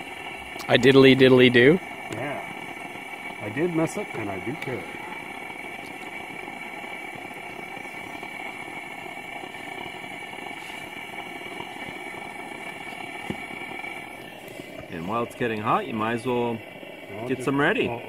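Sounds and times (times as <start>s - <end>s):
steady engine-like drone: 0.0s - 18.0s.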